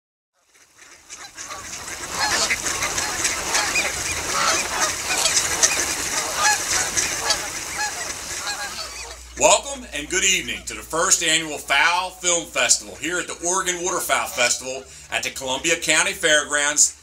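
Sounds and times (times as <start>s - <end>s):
geese honking: 0.4s - 17.0s.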